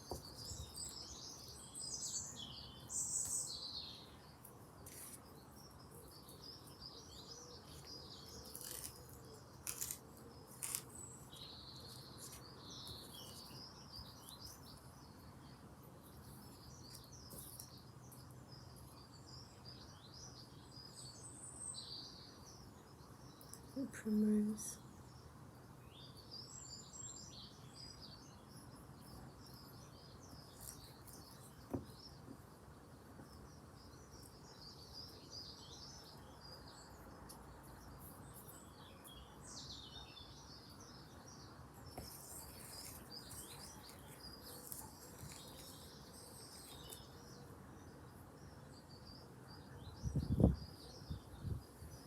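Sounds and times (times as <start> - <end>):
songbirds singing and chirping: 0.0 - 52.0.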